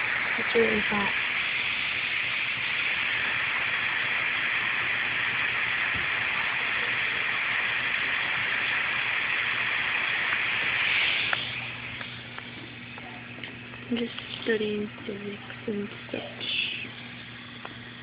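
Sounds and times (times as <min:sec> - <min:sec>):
laptop fan whooshing: 0:00.0 - 0:18.0.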